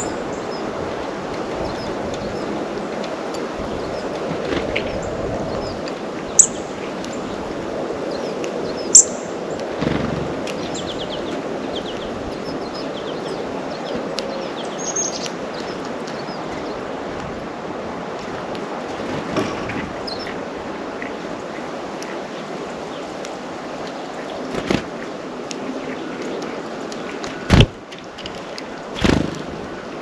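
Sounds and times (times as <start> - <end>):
songbirds chirping: 0.0 - 30.0
steady outdoor hiss: 0.0 - 30.0.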